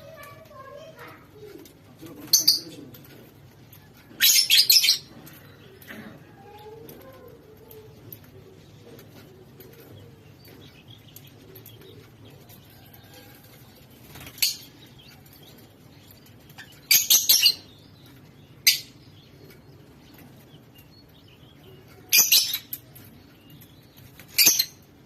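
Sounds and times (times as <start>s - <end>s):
lovebirds chirping: 0.0s - 25.0s.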